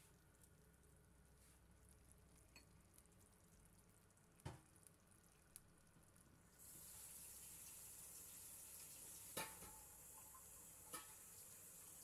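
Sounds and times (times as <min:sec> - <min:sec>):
broth sizzling in a pan: 0:00.0 - 0:12.0.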